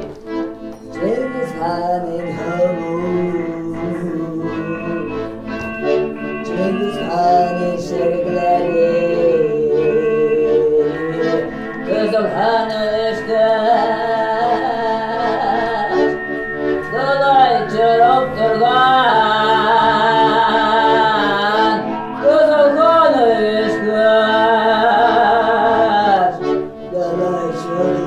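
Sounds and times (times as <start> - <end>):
held drone accompaniment: 0.0 - 28.0
woman singing folk melody: 0.9 - 5.1, 6.4 - 16.2, 16.8 - 28.0.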